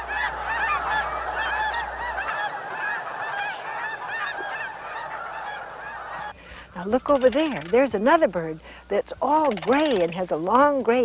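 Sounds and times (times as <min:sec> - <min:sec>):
geese honking in flight: 0:00.0 - 0:10.7.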